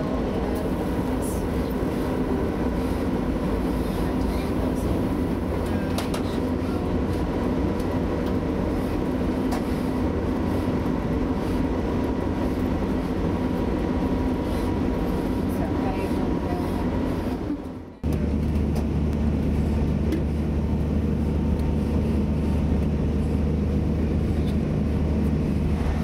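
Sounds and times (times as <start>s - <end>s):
diesel engine droning: 0.0s - 26.0s
wheel and rail rumble: 0.0s - 26.0s.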